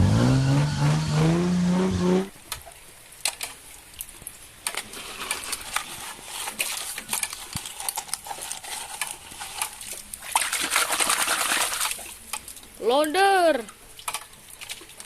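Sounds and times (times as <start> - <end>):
wet sloshing and rustling: 2.3 - 15.0.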